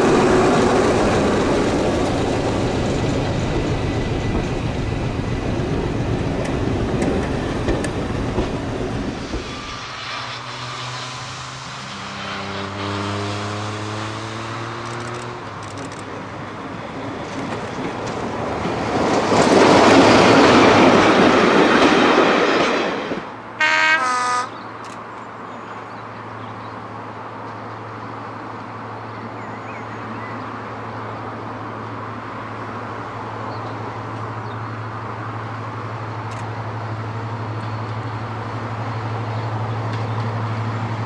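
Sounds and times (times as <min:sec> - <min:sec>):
diesel locomotive passing: 0:00.0 - 0:41.0
heavy train running noise: 0:00.0 - 0:41.0.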